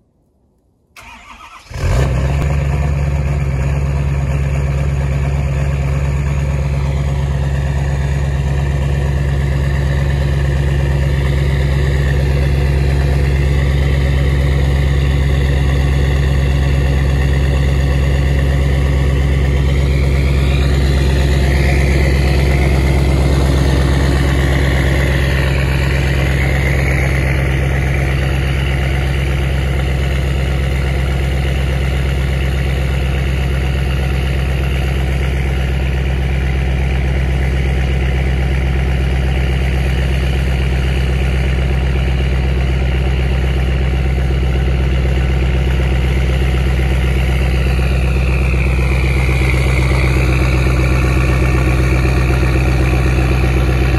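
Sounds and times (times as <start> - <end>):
diesel truck engine idling: 1.0 - 53.9.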